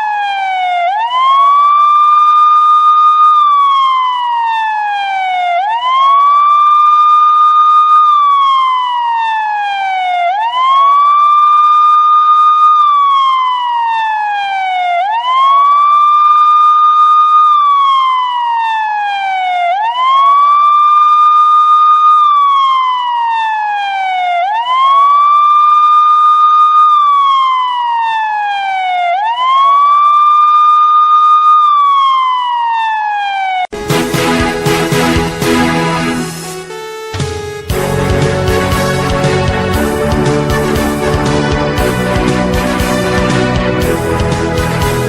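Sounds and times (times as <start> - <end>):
siren wailing: 0.0 - 45.0.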